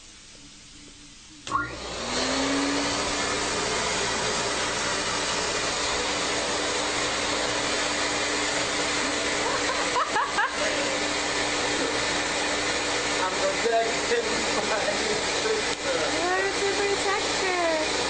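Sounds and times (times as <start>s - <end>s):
vacuum cleaner motor whine: 1.5s - 18.0s.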